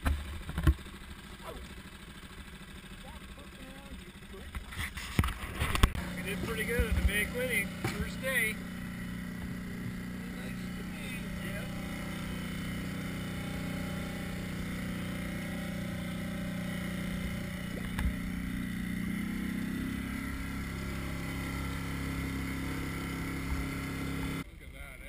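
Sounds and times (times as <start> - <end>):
motor hum: 0.0 - 25.0.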